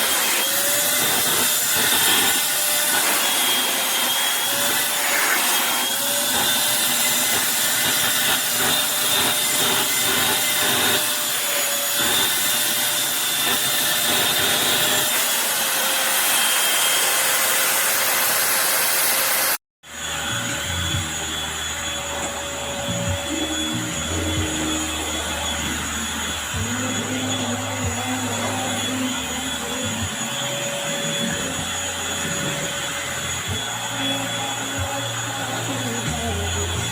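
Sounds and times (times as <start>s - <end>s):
stick vacuum cleaner running: 0.0s - 36.9s.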